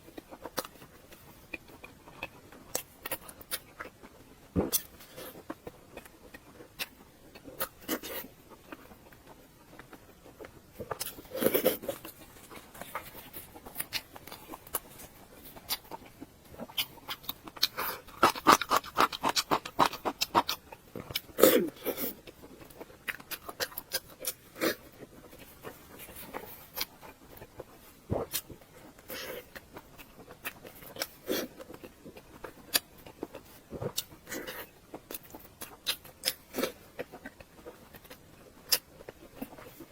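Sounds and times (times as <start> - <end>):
chewing with mouth clicks: 0.0 - 39.9.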